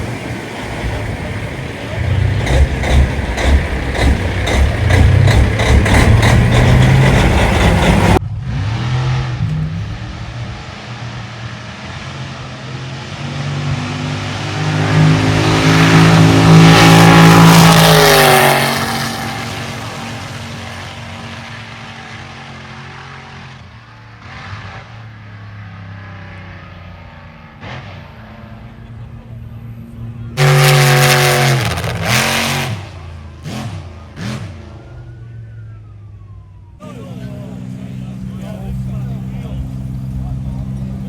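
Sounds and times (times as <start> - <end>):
diesel trucks driving past: 0.0 - 41.0.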